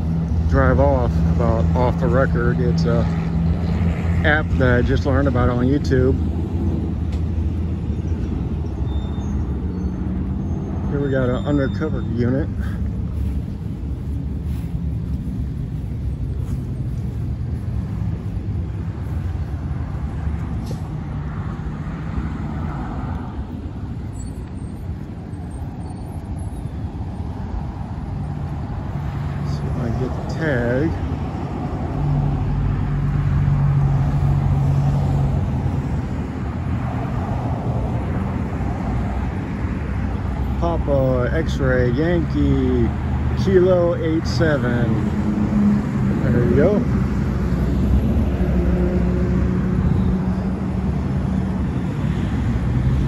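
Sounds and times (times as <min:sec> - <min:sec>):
road traffic rumble: 0:00.0 - 0:53.0
steady engine hum: 0:00.0 - 0:53.0.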